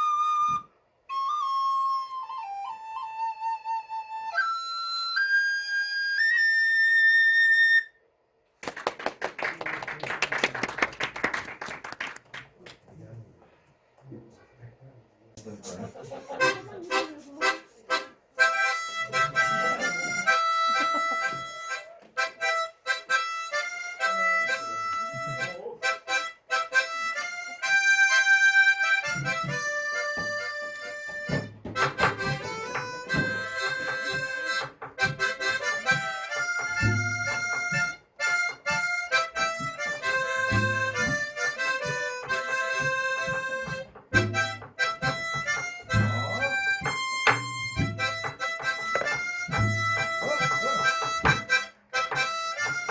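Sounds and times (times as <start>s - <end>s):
harmonica: 0.0s - 8.0s, 15.4s - 52.9s.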